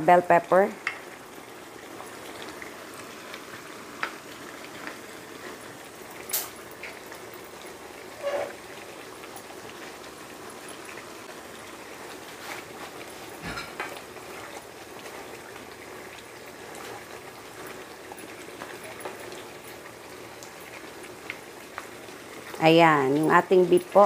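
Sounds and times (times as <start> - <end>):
stew simmering and bubbling: 0.0 - 24.0.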